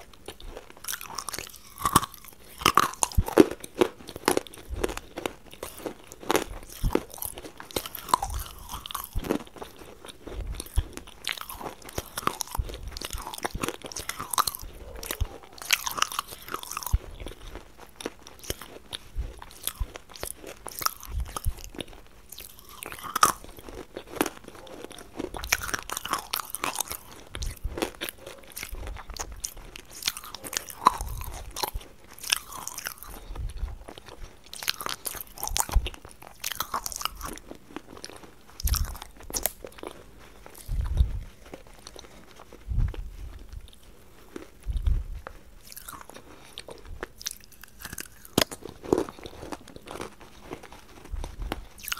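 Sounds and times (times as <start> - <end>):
crunching dry clay chunks: 0.0 - 51.9.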